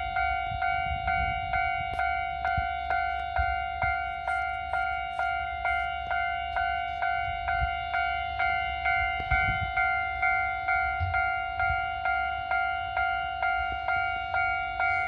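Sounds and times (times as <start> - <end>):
level-crossing warning bell ringing: 0.0 - 15.0.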